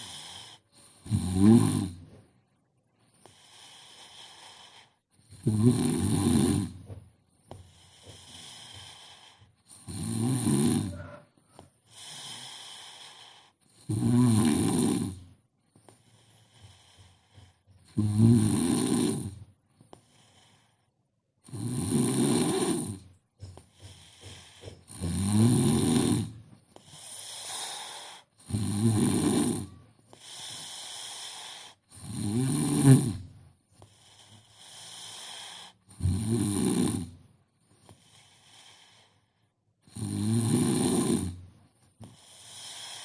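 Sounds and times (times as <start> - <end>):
quiet breaths out: 0.0 - 1.1, 1.8 - 5.5, 6.4 - 13.8, 14.9 - 18.0, 19.0 - 21.1, 22.4 - 32.2, 33.1 - 36.0, 37.1 - 40.0, 40.8 - 43.0
loud rattling snores: 0.0 - 2.2, 3.3 - 7.0, 7.6 - 20.7, 21.4 - 43.0.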